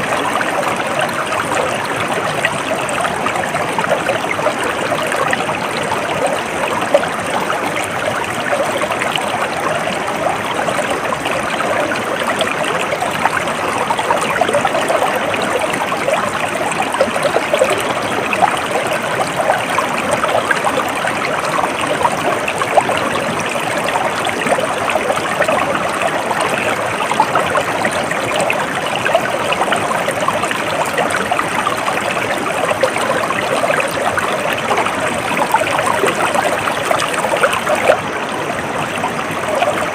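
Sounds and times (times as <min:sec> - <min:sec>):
water flowing over stones: 0:00.0 - 0:39.9.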